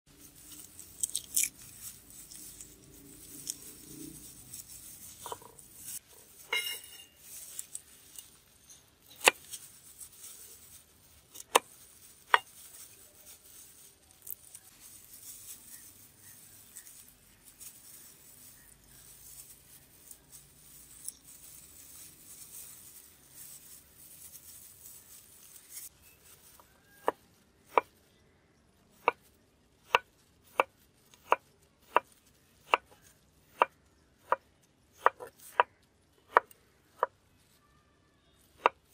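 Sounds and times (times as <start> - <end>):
garlic skins and gloves crinkling: 0.1 - 37.7.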